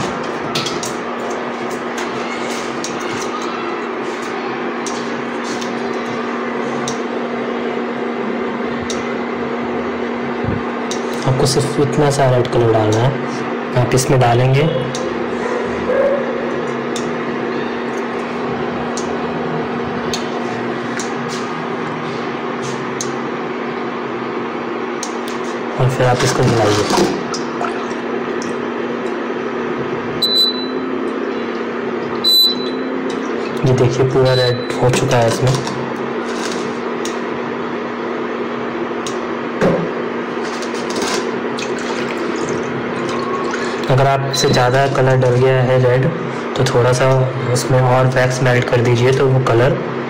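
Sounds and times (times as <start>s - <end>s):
induction cooktop humming and hissing: 0.0s - 50.0s.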